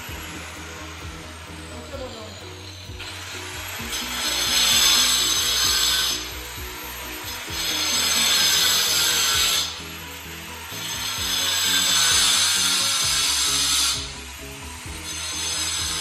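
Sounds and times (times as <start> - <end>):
electric stone cutter grinding: 0.0 - 16.0.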